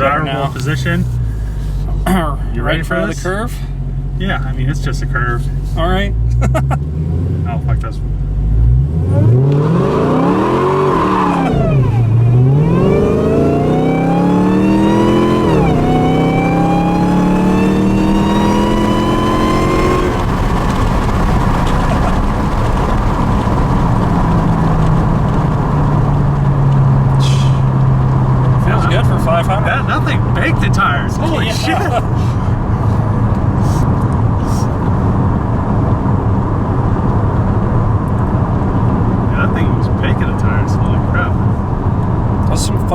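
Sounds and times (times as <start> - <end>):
car engine accelerating hard: 0.0 - 42.9
tires spinning: 8.4 - 42.9.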